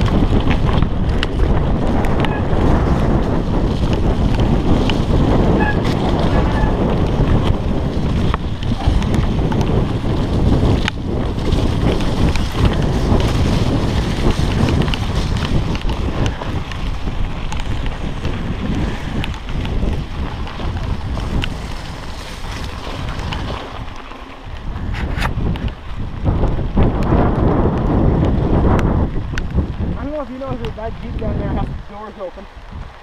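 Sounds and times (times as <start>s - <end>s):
bike clicks and rattles: 0.0s - 33.0s
wind buffeting microphone: 0.0s - 33.0s.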